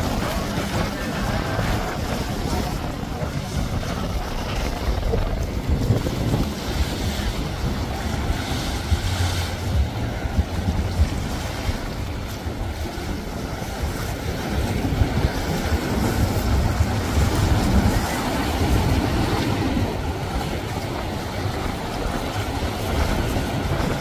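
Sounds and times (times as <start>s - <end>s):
boat engines rumbling: 0.0s - 24.0s
bow wave and wake rushing: 0.0s - 24.0s
wind buffeting microphone: 0.0s - 24.0s.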